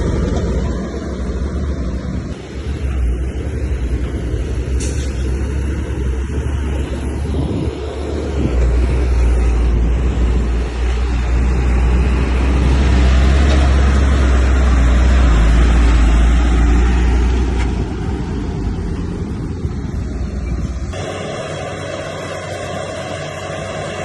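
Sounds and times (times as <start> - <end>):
heavy machinery diesel engine rumbling: 0.0 - 24.0.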